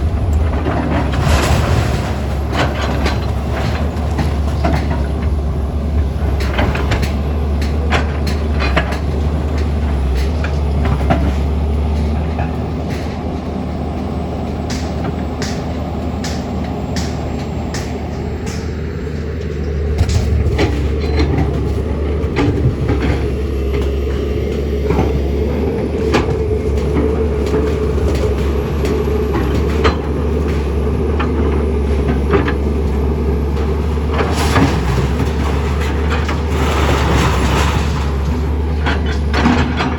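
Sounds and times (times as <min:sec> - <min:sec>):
clanks and knocks: 0:00.0 - 0:13.2, 0:14.6 - 0:39.9
heavy engine rumbling: 0:00.0 - 0:39.9.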